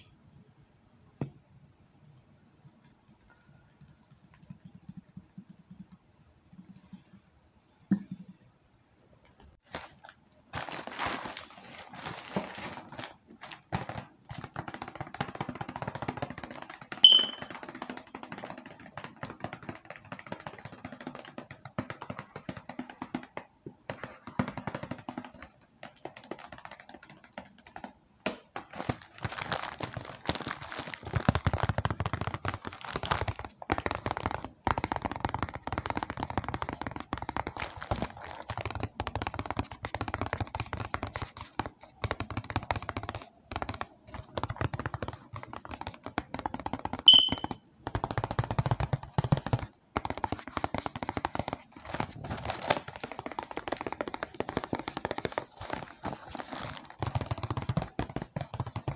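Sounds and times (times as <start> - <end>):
rapid tapping on objects: 2.6 - 8.4, 9.3 - 58.9.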